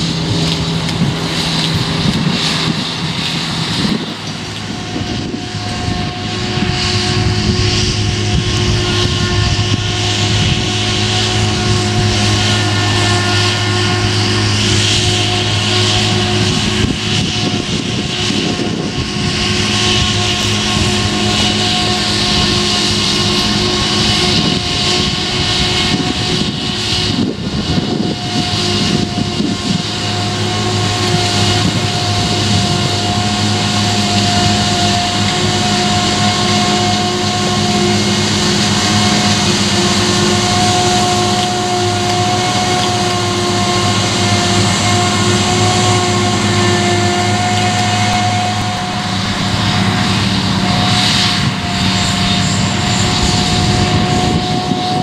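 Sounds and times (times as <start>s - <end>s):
forage harvester droning and whining: 0.0s - 55.0s
tractor engine running: 0.0s - 55.0s.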